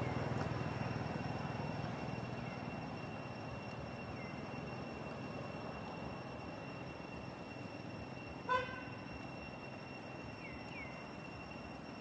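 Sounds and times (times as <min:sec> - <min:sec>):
low engine rumble: 0:00.0 - 0:12.0
faint high-pitched tones: 0:00.9 - 0:12.0.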